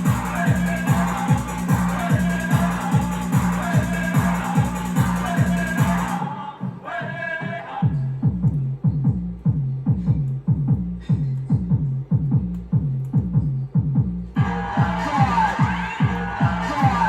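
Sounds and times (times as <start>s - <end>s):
hard trance music: 0.0s - 6.8s, 9.0s - 17.0s
steady kick drum: 0.0s - 17.0s.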